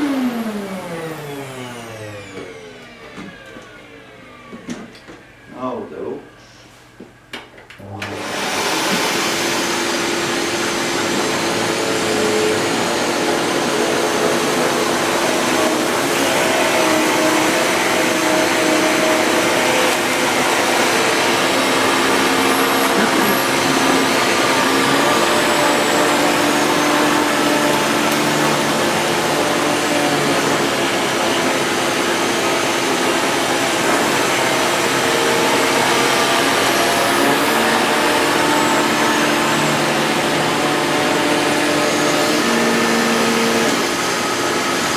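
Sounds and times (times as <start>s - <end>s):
vacuum cleaner running: 0.0s - 7.2s, 7.8s - 44.9s.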